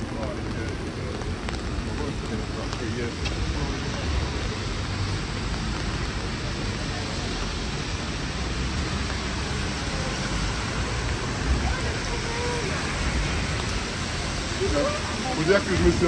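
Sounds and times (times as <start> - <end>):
passing traffic: 0.0 - 16.0
rain hissing on street: 0.0 - 16.0.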